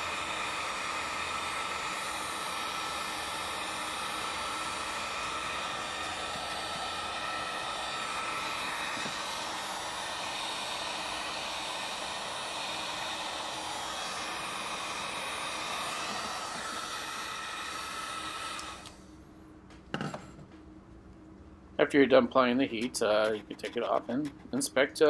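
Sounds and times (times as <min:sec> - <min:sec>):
heat gun blowing air: 0:00.0 - 0:19.1, 0:22.6 - 0:24.4.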